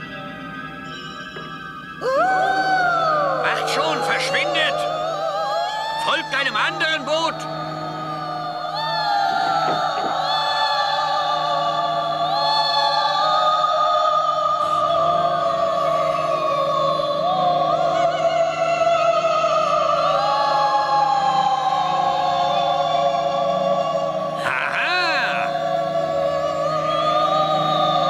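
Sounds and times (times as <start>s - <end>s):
low steady drone: 0.0s - 28.0s
eerie wordless singing: 2.0s - 28.0s.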